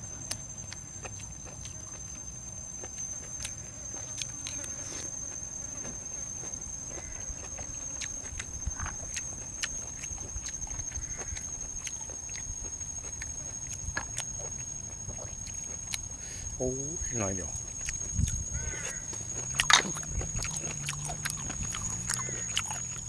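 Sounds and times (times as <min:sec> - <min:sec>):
chewing and crunching: 0:00.0 - 0:23.0.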